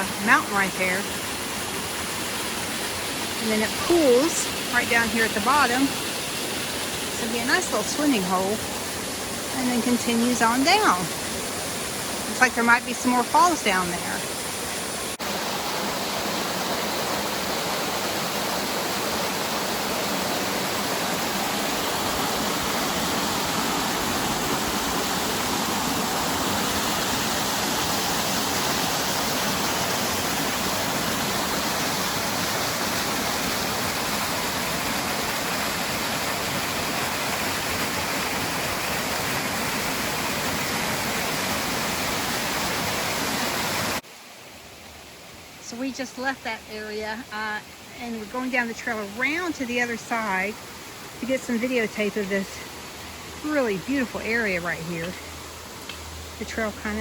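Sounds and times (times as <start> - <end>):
small waterfall roaring: 0.0 - 57.0.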